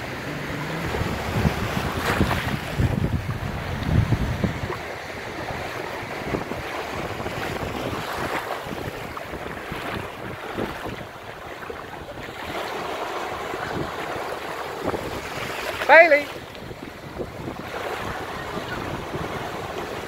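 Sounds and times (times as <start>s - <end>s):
small waves breaking: 0.0s - 20.0s
wind on microphone: 0.0s - 20.0s.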